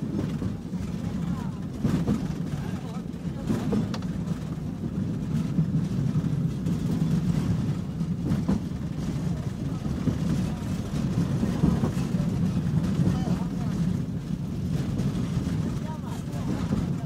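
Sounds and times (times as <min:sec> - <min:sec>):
tram rumbling along rails: 0:00.0 - 0:17.0.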